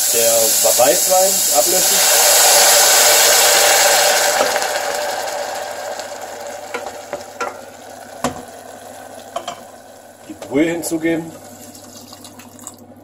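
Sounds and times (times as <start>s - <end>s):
pan sizzling and hissing: 0.0s - 12.6s.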